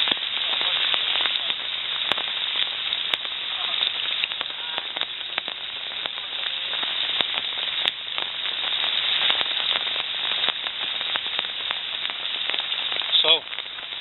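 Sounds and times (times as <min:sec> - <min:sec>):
rain hissing: 0:00.0 - 0:14.0
raindrops striking close by: 0:00.0 - 0:14.0.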